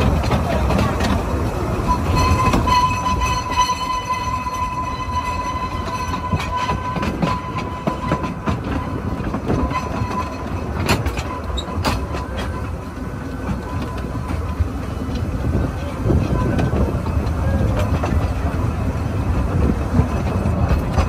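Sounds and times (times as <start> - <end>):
train carriage rolling over track: 0.0 - 21.0
wheel flanges squealing: 0.0 - 21.0.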